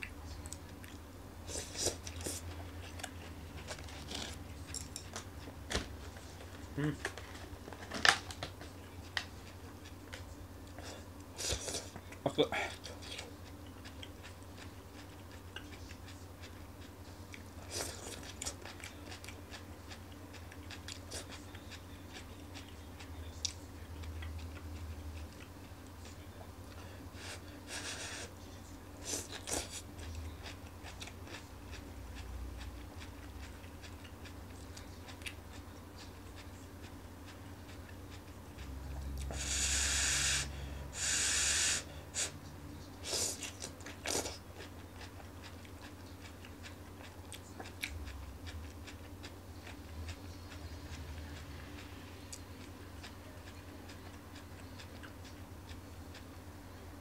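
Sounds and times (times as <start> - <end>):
person chewing leafy vegetables: 0.0 - 28.4, 29.0 - 57.0.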